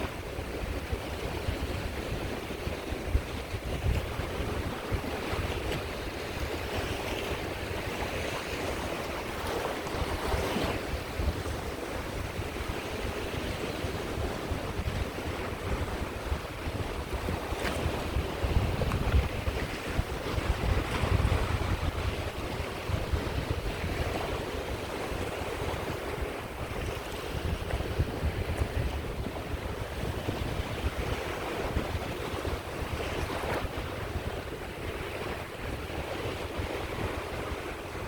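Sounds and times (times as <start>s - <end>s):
waves washing onto shore: 0.0s - 38.0s
wind buffeting microphone: 0.0s - 38.0s.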